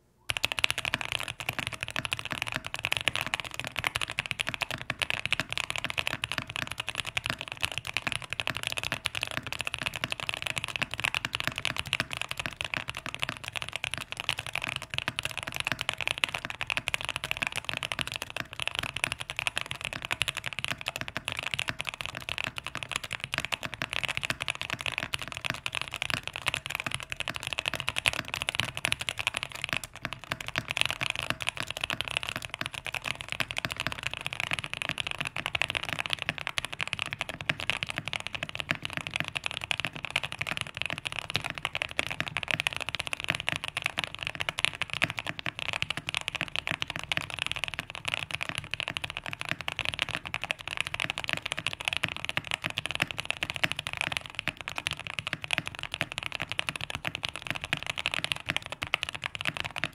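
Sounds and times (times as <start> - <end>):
fast typing on mechanical keyboard: 0.3 - 59.9.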